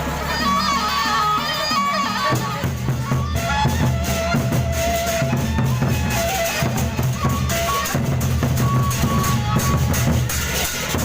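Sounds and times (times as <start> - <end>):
cymbals: 0.0 - 11.0
large drums beating: 0.0 - 11.0.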